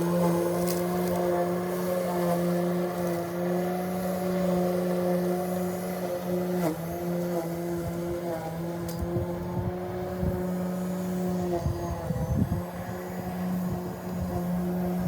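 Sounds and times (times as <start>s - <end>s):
lawn mower running: 0.0s - 15.0s.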